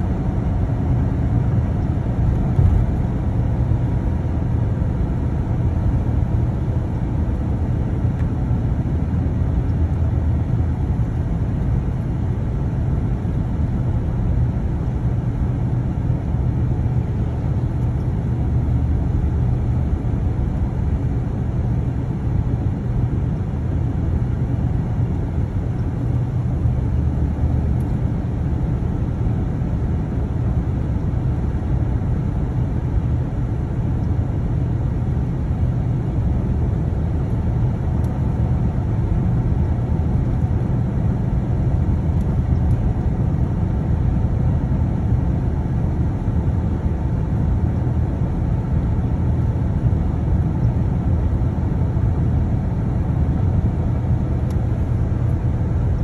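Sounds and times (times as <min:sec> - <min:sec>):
car cabin engine and tyre rumble: 0:00.0 - 0:56.0.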